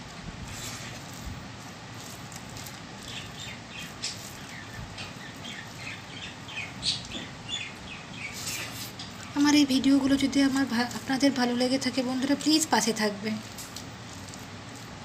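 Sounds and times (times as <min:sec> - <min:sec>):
small birds chirping: 0:02.0 - 0:14.9.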